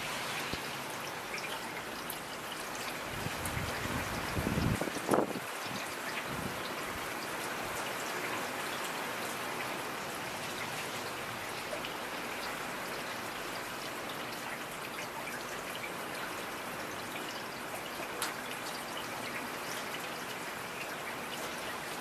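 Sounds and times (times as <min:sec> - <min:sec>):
rain on hard surface: 0:00.0 - 0:22.0.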